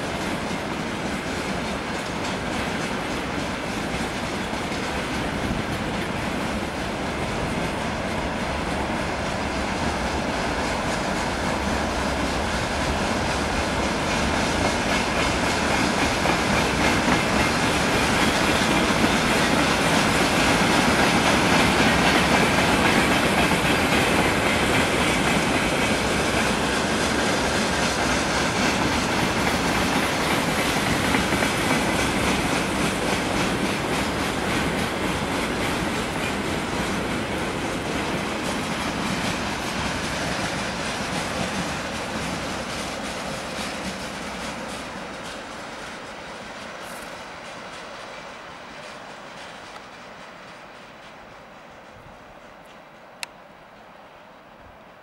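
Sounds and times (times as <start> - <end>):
clickety-clack over rail joints: 0.0 - 53.2
freight train wheels rumbling: 0.0 - 54.4.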